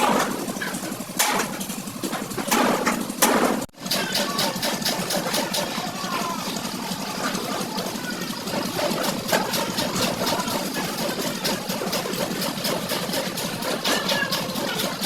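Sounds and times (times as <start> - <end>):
engine running with clatter: 0.0 - 15.0.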